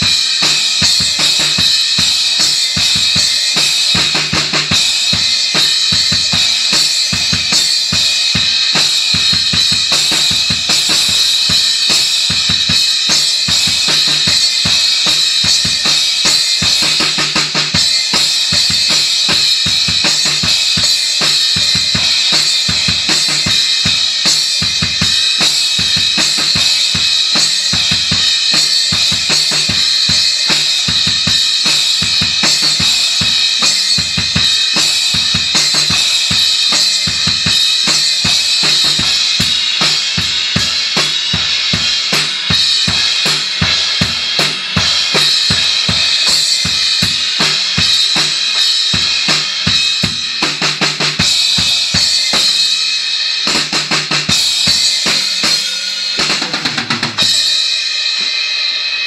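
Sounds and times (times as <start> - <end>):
acoustic drum kit rock groove: 0.0 - 59.0
crash and ride cymbals: 0.0 - 59.0.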